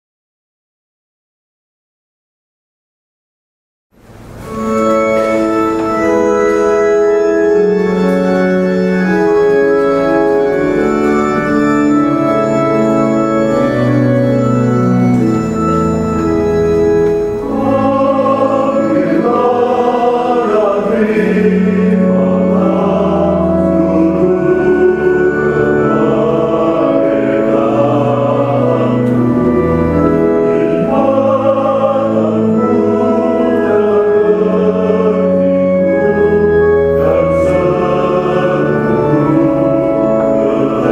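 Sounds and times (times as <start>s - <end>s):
organ playing chords: 4.0s - 40.9s
choir singing: 4.4s - 40.9s.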